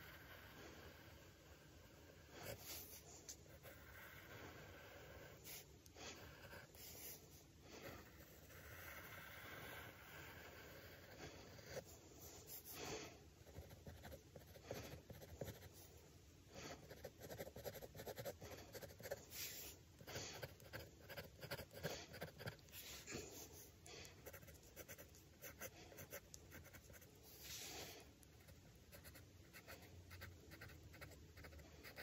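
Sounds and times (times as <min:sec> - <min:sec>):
drawing tool scratching paper: 0:02.2 - 0:12.8, 0:13.4 - 0:15.9, 0:16.7 - 0:27.7, 0:28.4 - 0:32.0.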